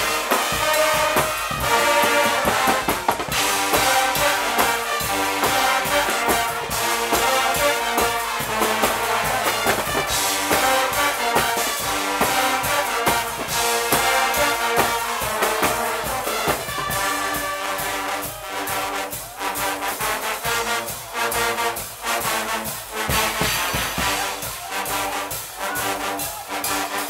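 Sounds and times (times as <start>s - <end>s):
steady drum beat: 0.0s - 27.0s
trumpets and trombones blaring: 0.0s - 27.0s.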